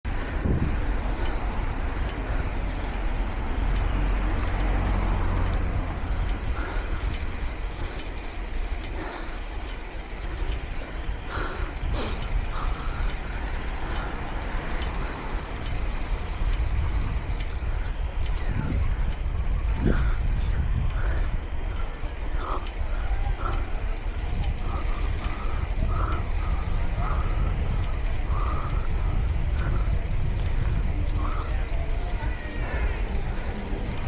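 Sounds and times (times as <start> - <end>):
road and tyre noise: 0.0 - 34.0
wind rushing over microphone: 0.0 - 34.0.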